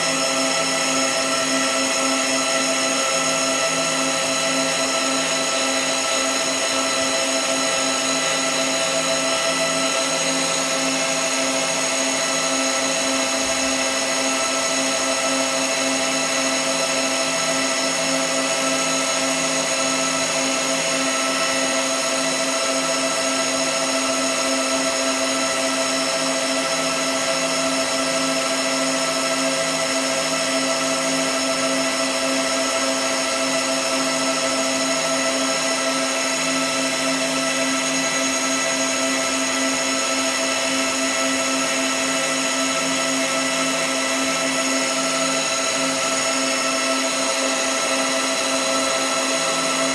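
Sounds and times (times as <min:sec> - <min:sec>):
machine humming and whining: 0:00.0 - 0:49.9.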